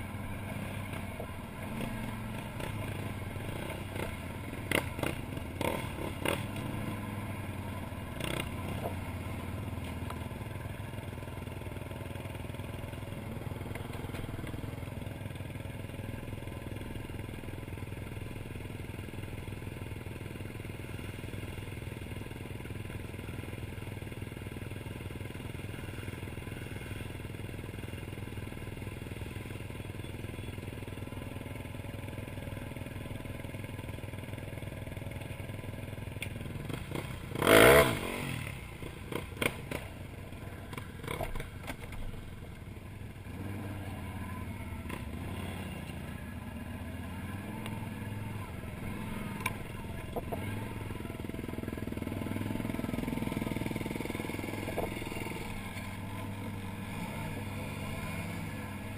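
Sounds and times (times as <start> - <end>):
atv engine idling: 0.0 - 58.9.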